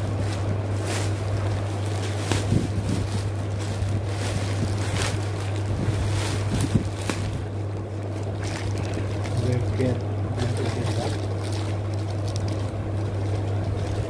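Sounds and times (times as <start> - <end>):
plastic packaging crinkling: 0.0 - 14.0
steady low hum: 0.0 - 14.0.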